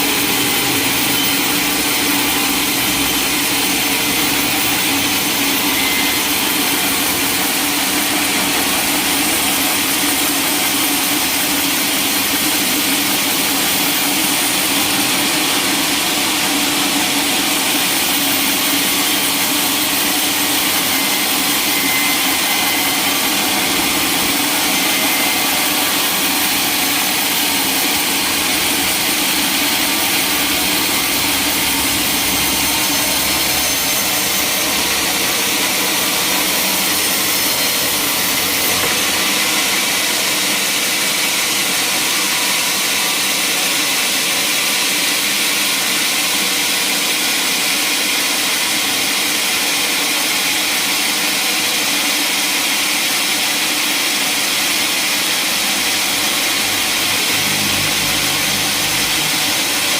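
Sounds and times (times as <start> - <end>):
sawmill saw hissing: 0.0 - 59.9.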